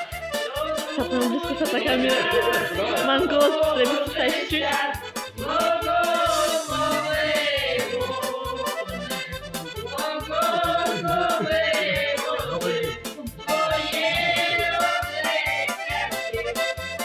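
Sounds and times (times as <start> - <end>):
fast steady beat: 0.0 - 17.0.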